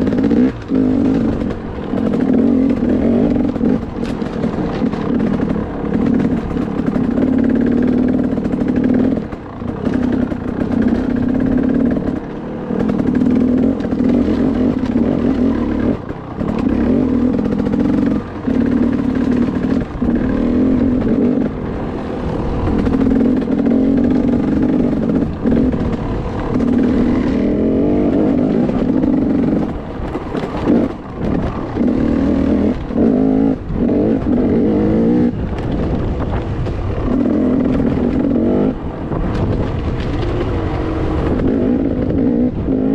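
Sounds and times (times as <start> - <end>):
bike knocking over bumps: 0.0 - 20.3, 22.6 - 34.4, 35.3 - 38.4, 39.0 - 42.2
dirt bike engine under throttle: 0.0 - 42.9.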